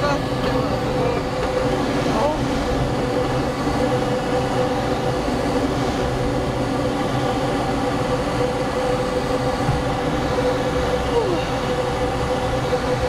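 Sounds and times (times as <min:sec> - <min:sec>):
aircraft engine and propeller droning: 0:00.0 - 0:13.0
constant tone: 0:00.0 - 0:13.0.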